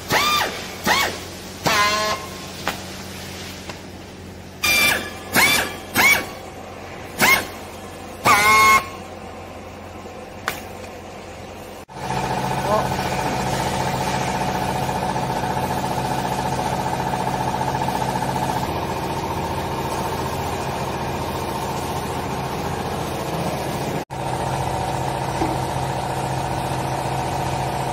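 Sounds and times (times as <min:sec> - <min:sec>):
hydraulic pump hum with whine: 0:00.0 - 0:27.9.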